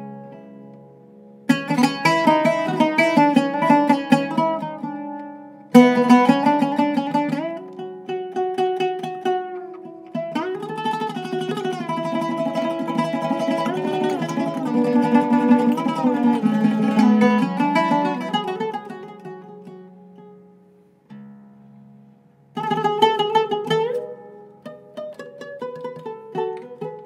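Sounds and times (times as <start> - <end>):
oud plucked solo: 0.0 - 27.0.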